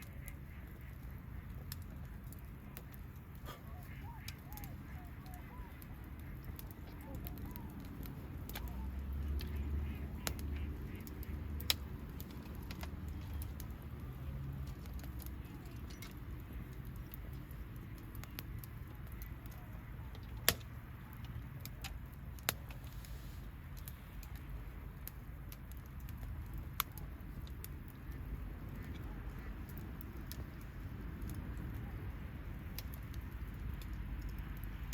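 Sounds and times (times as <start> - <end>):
low steady rumble: 0.0 - 34.9
wood bonfire crackling: 0.0 - 34.9.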